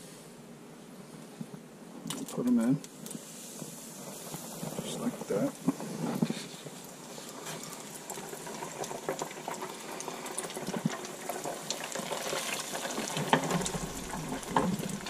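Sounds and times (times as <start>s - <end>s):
hot oil bubbling and sizzling: 2.1s - 15.0s.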